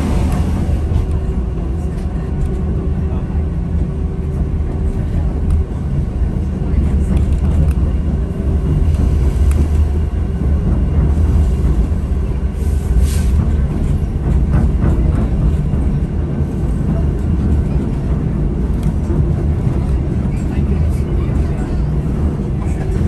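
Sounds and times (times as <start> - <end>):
train rumbling along track: 0.0 - 23.0.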